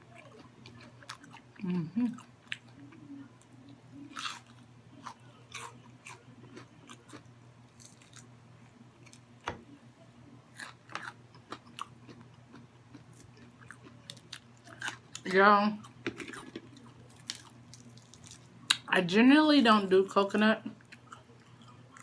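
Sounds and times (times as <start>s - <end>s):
person chewing crispy food: 0.0s - 9.3s, 10.5s - 18.9s, 20.8s - 22.0s.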